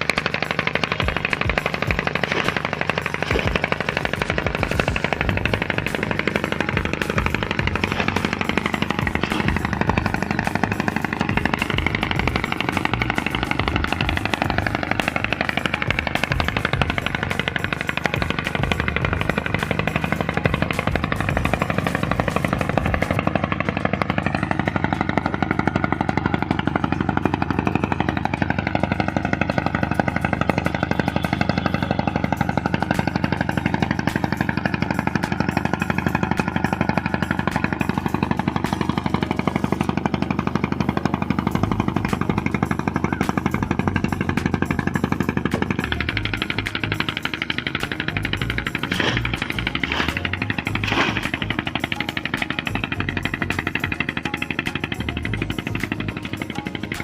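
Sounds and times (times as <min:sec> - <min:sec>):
motor running with rapid knocking: 0:00.0 - 0:57.0.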